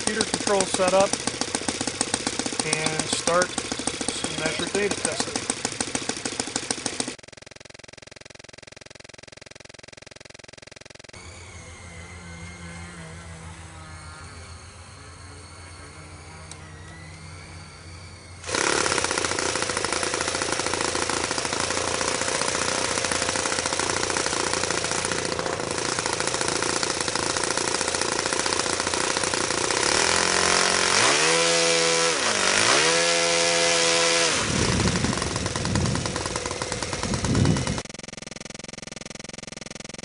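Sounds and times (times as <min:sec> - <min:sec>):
model glow engine running: 0:00.0 - 0:07.2, 0:07.9 - 0:38.0.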